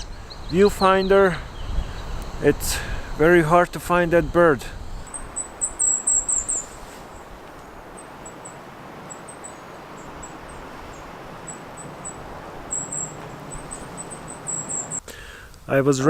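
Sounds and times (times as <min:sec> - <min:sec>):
bird calling in high thin notes: 0:00.0 - 0:15.0.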